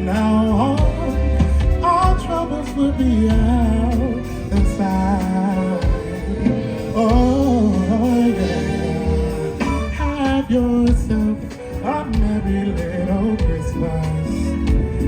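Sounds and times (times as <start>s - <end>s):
bass line and beat: 0.0s - 15.0s
person singing: 0.0s - 15.0s.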